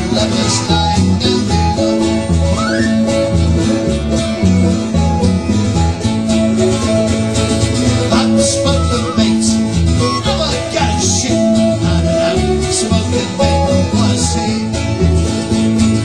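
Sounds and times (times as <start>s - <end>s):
folk band playing: 0.0s - 16.0s
strummed acoustic guitar: 0.0s - 16.0s.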